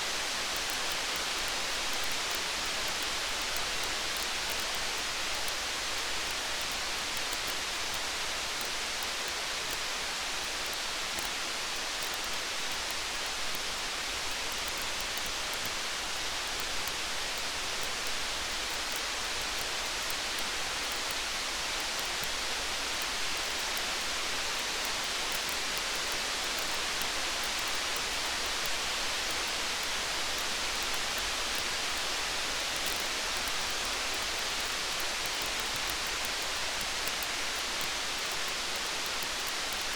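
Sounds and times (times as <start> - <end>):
steady rain falling: 0.0 - 39.9
faint high ticks: 0.1 - 39.9.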